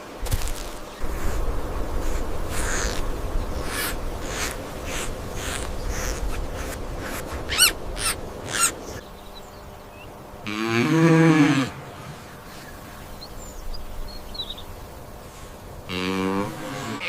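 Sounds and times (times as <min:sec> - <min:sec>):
birds chirping: 0:00.0 - 0:10.4, 0:11.8 - 0:15.8.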